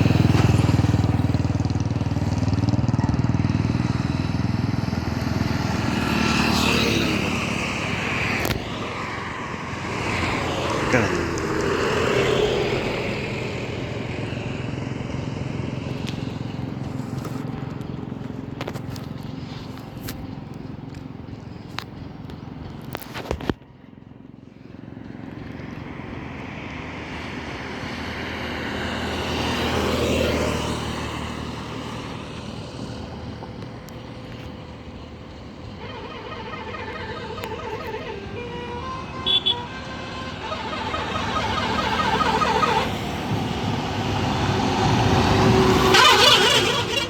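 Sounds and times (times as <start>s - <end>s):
trucks driving past: 0.0s - 47.0s.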